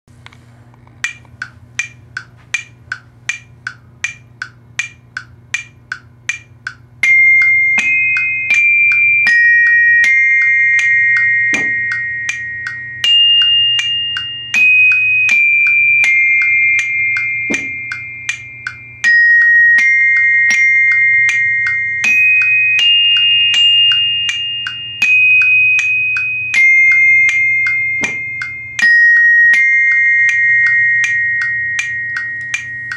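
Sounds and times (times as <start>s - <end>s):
glockenspiel melody: 6.3s - 32.9s.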